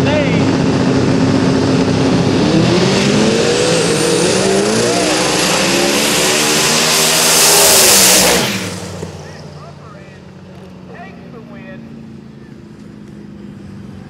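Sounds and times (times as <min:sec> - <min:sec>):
truck engines revving: 0:00.0 - 0:14.0.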